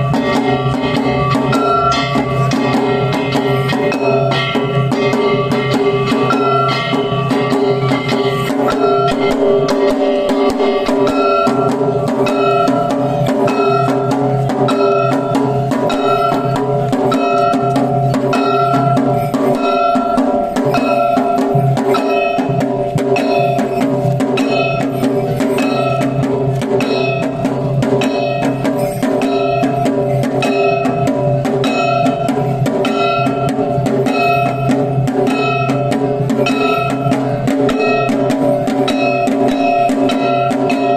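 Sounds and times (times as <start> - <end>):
drums beaten in fast rhythm: 0.0 - 40.9
metal gongs struck: 0.0 - 40.9.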